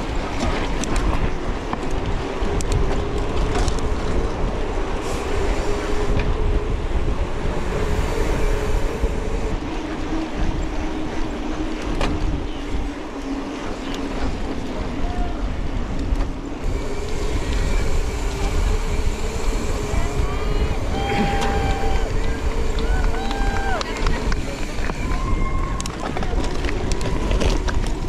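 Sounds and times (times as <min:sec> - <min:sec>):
bike tyres and frame rattling: 0:00.0 - 0:28.0
wind buffeting microphone: 0:00.0 - 0:28.0
freewheeling hub buzz: 0:00.1 - 0:28.0.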